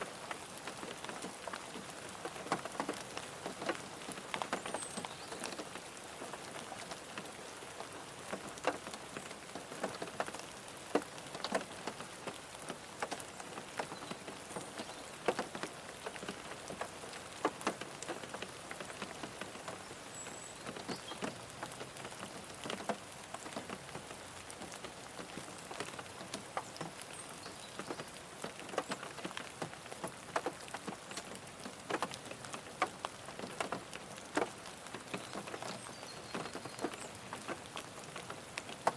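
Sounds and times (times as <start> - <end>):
rain on a car: 0.0 - 38.9
raindrops tapping: 0.0 - 38.9.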